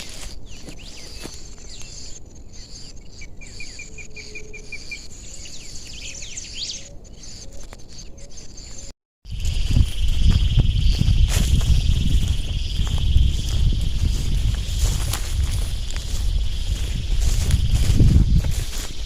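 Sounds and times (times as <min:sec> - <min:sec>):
bird calls: 0:00.0 - 0:19.0
high insect chorus: 0:00.0 - 0:19.0.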